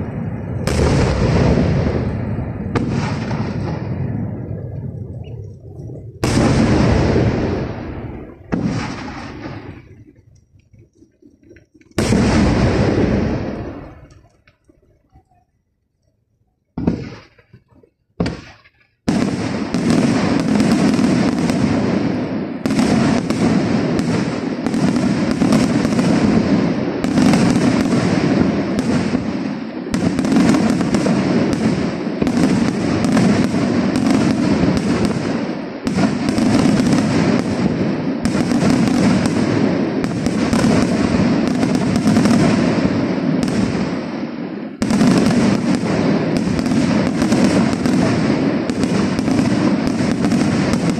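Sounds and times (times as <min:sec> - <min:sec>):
firework bangs: 0:00.0 - 0:10.3, 0:12.0 - 0:14.5, 0:16.8 - 0:50.9
rapid firework explosions and crackling: 0:00.0 - 0:15.5, 0:16.4 - 0:50.9.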